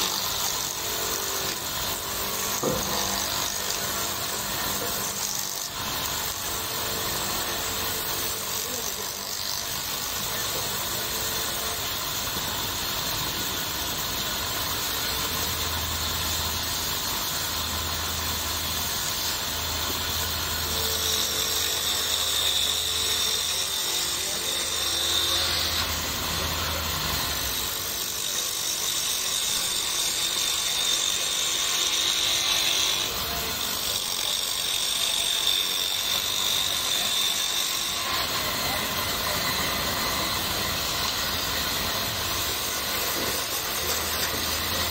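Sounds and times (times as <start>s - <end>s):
wood lathe running: 0.0s - 44.9s.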